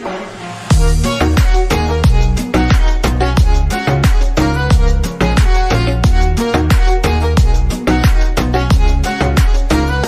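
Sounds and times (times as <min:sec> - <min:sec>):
fast beat music: 0:00.0 - 0:10.0
deep sliding bass thumps: 0:00.7 - 0:09.4.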